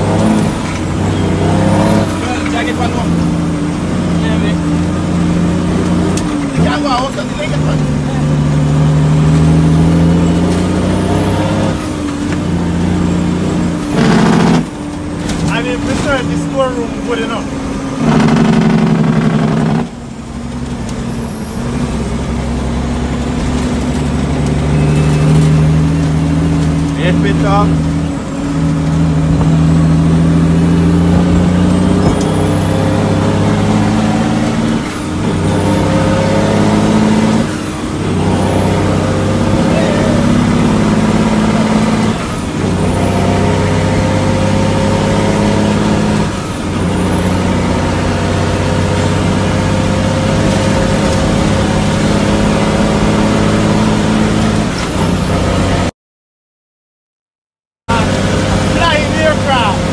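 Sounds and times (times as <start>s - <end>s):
truck diesel engine shifting gears: 0.0s - 55.9s, 57.9s - 59.9s.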